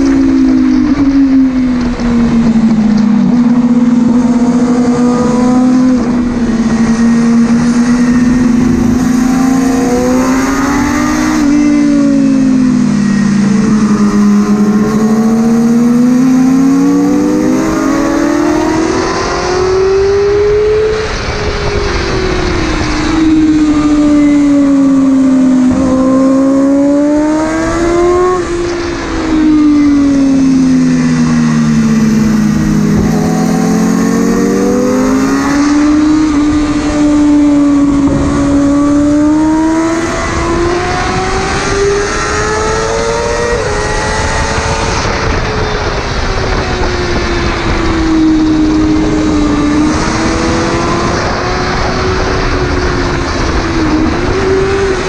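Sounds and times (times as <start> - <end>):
motorcycle engine revving: 0.0 - 55.0
second motorcycle engine: 0.0 - 55.0
wind noise: 0.0 - 55.0.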